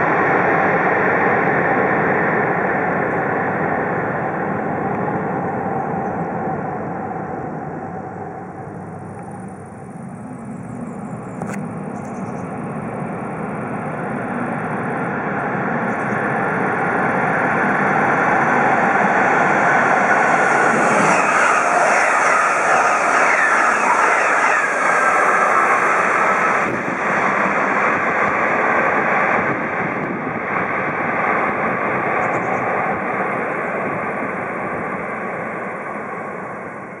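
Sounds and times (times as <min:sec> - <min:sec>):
high-speed train passing: 0:00.0 - 0:37.0.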